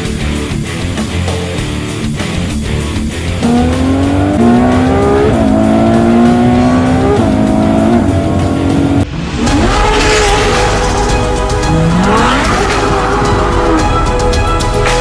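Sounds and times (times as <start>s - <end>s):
car engine revving: 1.7s - 14.9s
car engine accelerating: 1.9s - 15.0s.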